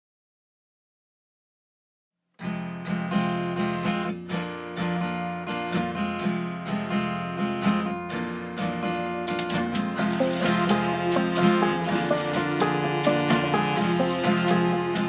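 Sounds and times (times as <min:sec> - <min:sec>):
acoustic guitar strumming: 0:02.4 - 0:15.0.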